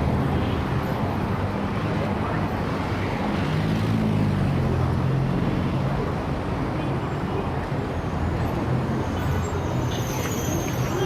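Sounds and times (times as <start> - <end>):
road noise: 0.0 - 11.0
traffic engines rumbling: 0.0 - 11.0.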